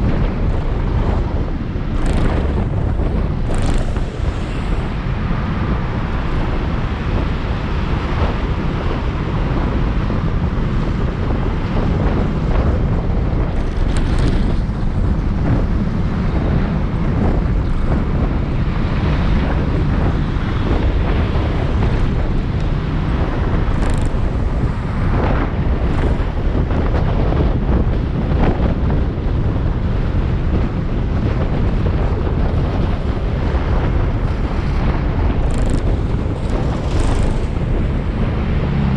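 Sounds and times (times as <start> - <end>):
scooter engine and road rumble: 0.0 - 38.9
wind rush over microphone: 0.0 - 38.9.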